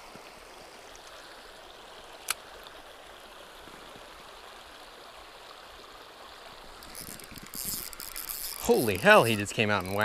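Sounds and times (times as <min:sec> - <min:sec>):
river water running: 0:00.0 - 0:10.0.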